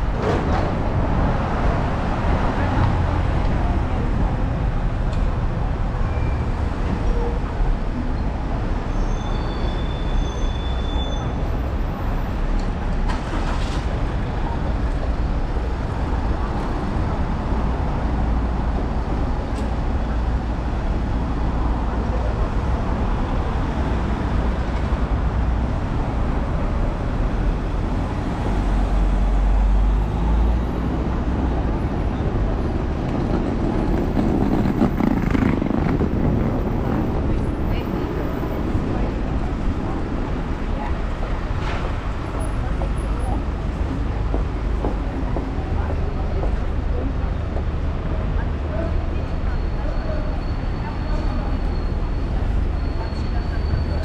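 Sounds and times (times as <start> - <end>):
city road traffic: 0.0 - 54.0.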